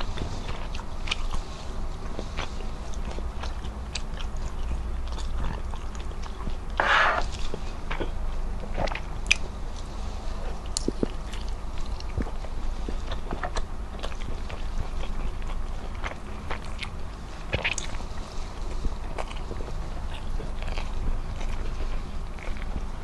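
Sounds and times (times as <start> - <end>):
chewing food: 0.0 - 23.0.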